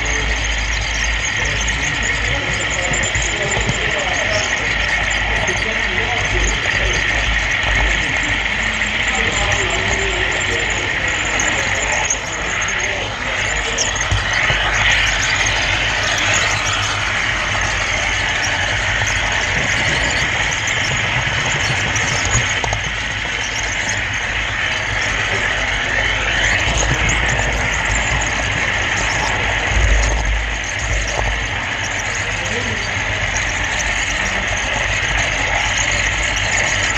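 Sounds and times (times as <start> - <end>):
model train wheels rumbling: 0.0 - 36.9.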